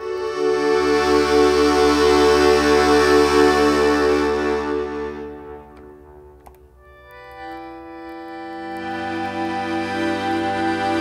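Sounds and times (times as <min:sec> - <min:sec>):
accordion chord pulsing: 0:00.0 - 0:11.0.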